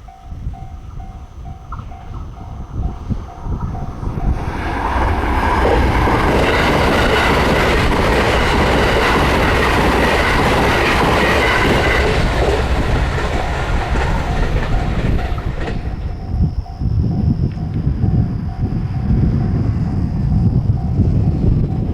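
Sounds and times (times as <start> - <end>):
crossing warning bell ringing: 0.0 - 21.9
train wheels on rails: 0.0 - 21.9.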